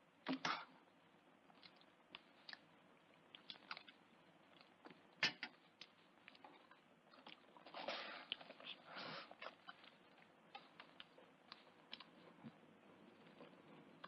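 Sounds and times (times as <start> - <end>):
chewing: 1.5 - 14.0.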